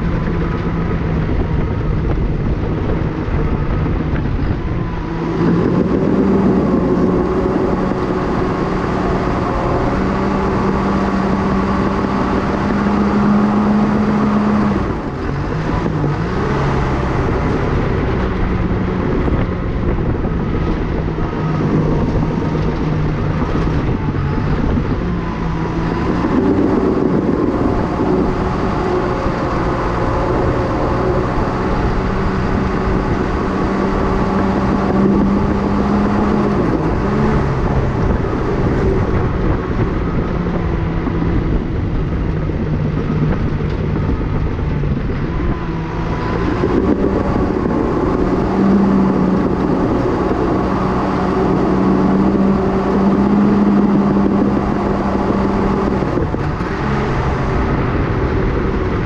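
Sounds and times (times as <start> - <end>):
dozer diesel engine under load: 0.0 - 59.0.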